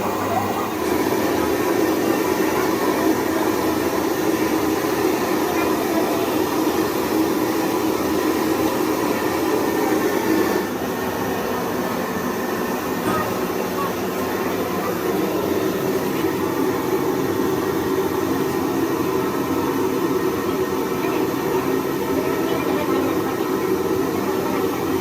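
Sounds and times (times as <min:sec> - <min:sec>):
machine whirring: 0:00.0 - 0:25.0.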